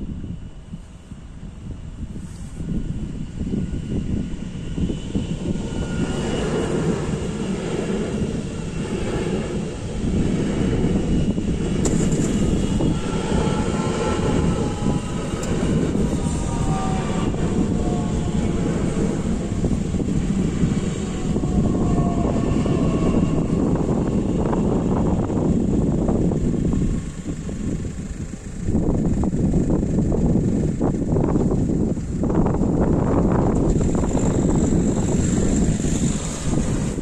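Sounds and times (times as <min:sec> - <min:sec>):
train rumbling past: 0:04.9 - 0:30.8, 0:32.2 - 0:37.0.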